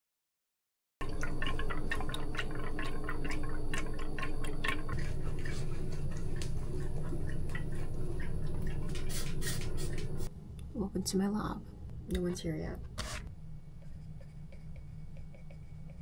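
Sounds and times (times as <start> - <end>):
steady low hum: 1.0 - 16.0.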